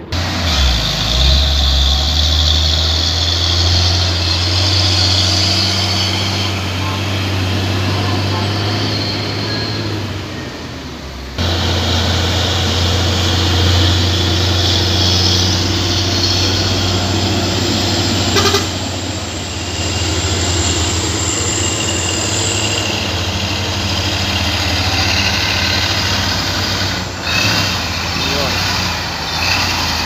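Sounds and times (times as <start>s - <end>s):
diesel truck engines: 0.0s - 30.0s
tyre and road noise: 0.0s - 30.0s.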